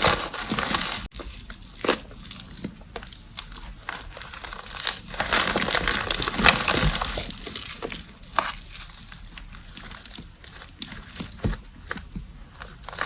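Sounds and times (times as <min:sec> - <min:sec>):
chalk crunching: 0:00.0 - 0:13.0
small crackles: 0:00.0 - 0:13.0.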